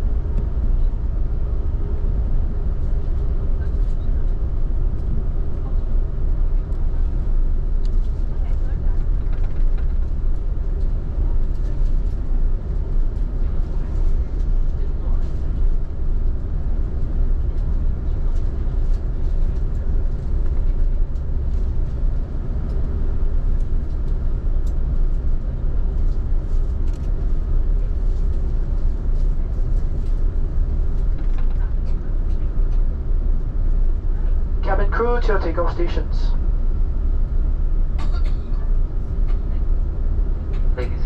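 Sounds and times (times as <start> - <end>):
aircraft engines idling: 0.0 - 41.0.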